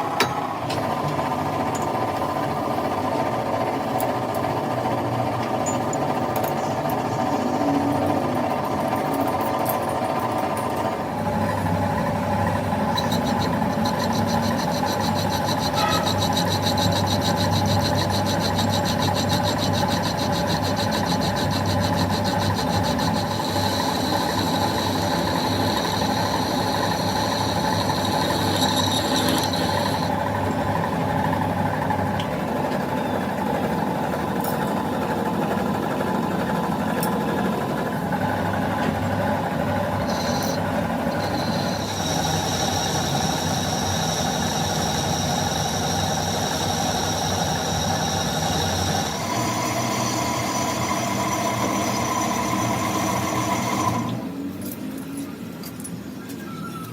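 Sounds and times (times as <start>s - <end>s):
workshop machinery humming: 0.0s - 56.9s.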